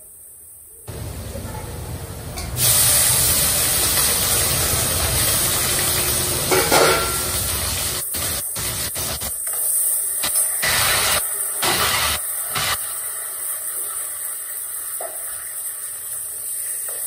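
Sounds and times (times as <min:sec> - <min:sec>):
food sizzling in hot oil: 0:02.3 - 0:17.0.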